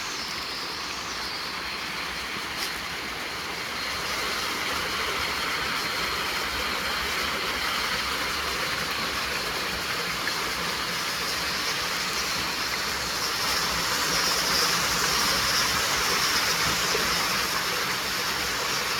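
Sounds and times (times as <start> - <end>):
water rushing: 0.5 - 18.9.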